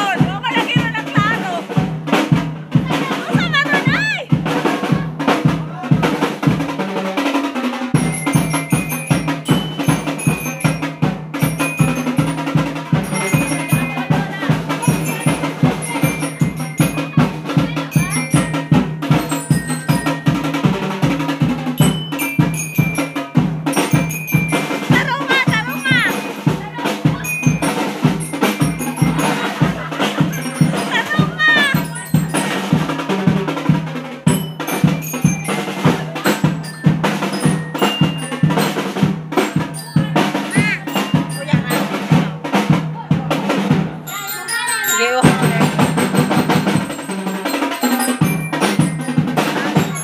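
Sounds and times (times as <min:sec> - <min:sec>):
upbeat music with fast drum beat: 0:00.0 - 0:50.0.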